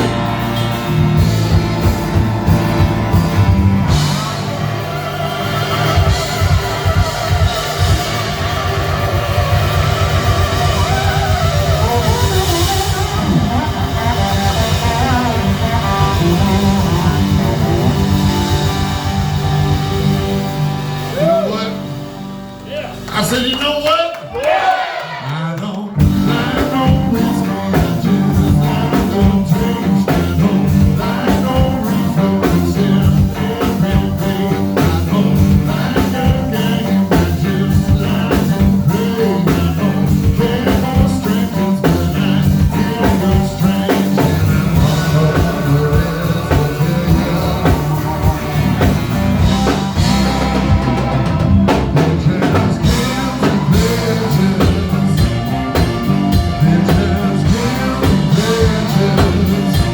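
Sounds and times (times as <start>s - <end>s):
blues-rock band playing: 0.0s - 23.9s, 26.0s - 59.9s.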